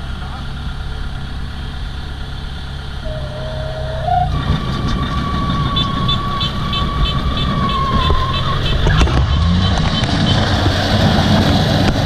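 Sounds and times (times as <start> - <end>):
combine harvester diesel engine running: 0.0 - 12.0
steady machine whine: 2.1 - 12.0.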